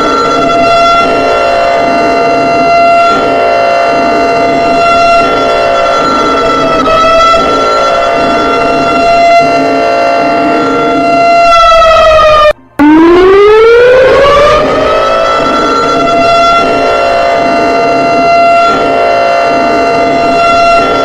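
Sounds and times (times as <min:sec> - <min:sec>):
civil defense siren: 0:00.0 - 0:21.0.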